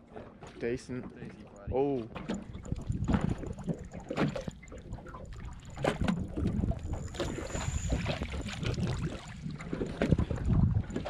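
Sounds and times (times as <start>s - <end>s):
water splashing and sloshing: 0.0s - 11.0s
wind rumble on microphone: 1.3s - 11.0s.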